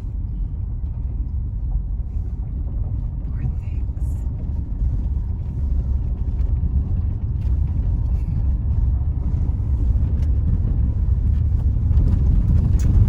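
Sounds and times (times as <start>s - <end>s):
car driving on rough road: 0.0s - 13.0s.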